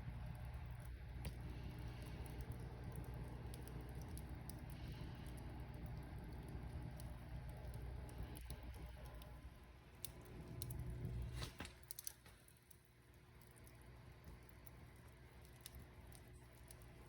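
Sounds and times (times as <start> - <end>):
fire pops and crackles: 0.0 - 17.0
low rumble of flames: 0.0 - 17.0.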